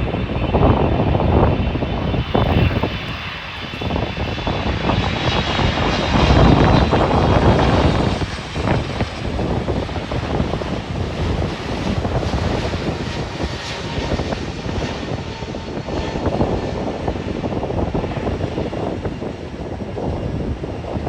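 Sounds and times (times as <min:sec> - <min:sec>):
jet airliner engines running: 0:00.0 - 0:21.0
wind on microphone: 0:00.0 - 0:21.0.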